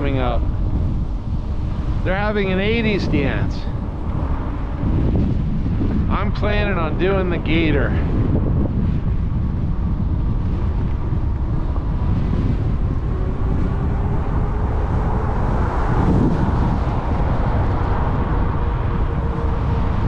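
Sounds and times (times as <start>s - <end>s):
faint steady whine: 0.0s - 20.0s
wind buffeting microphone: 0.0s - 20.0s.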